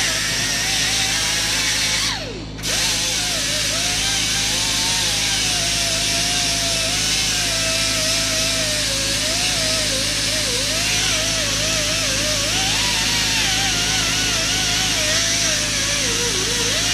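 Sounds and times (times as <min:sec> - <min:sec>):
power tool whining: 0:00.0 - 0:16.9.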